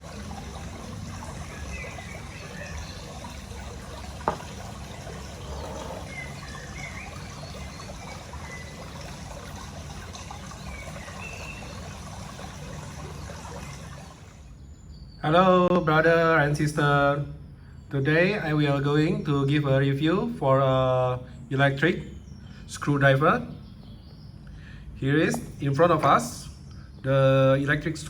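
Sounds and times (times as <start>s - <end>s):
trickling water: 0.0s - 15.6s, 16.5s - 28.0s.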